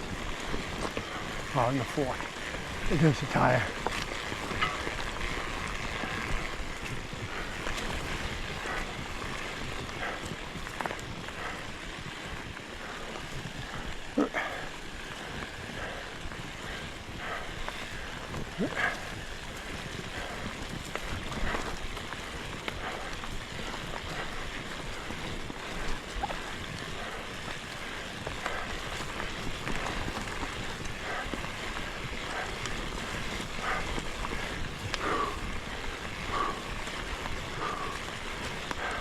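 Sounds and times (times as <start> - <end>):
bike tyre and trail noise: 0.0 - 39.0.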